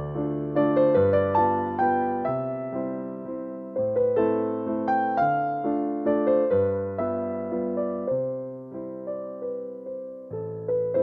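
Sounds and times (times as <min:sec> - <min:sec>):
gentle piano piece: 0:00.0 - 0:11.0.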